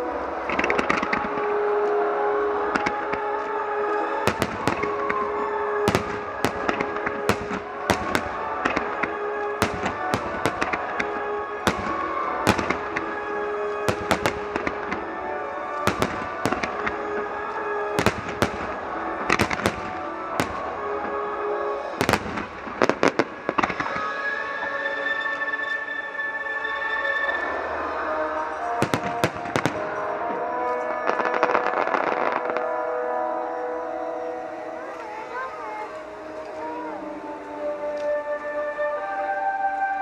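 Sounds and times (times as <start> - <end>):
fireworks bangs: 0.0 - 24.2, 27.4 - 39.0
music: 0.0 - 40.0.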